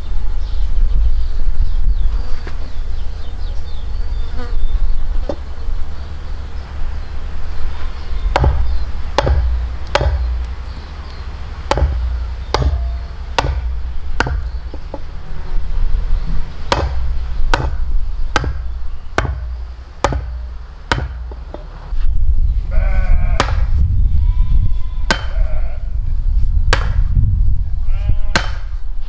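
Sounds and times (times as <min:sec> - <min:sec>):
steady low rumble: 0:02.7 - 0:29.0.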